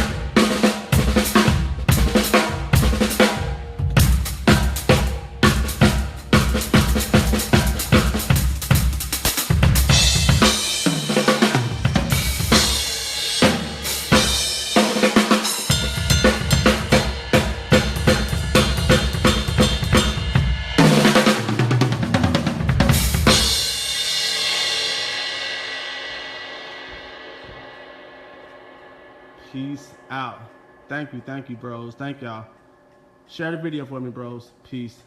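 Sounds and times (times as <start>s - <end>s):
cymbals ringing: 0.0s - 21.4s, 23.3s - 34.6s
drum kit played hard: 0.0s - 31.8s.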